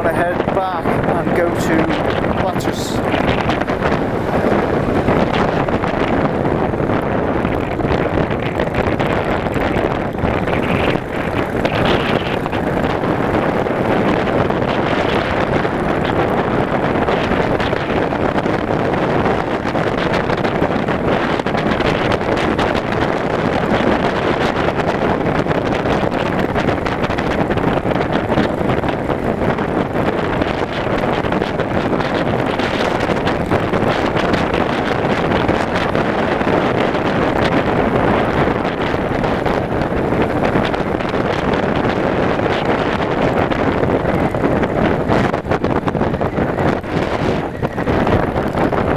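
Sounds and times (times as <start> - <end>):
road noise: 0.0 - 48.9
wind rushing over microphone: 0.0 - 48.9
motorcycle engine running: 1.9 - 48.9.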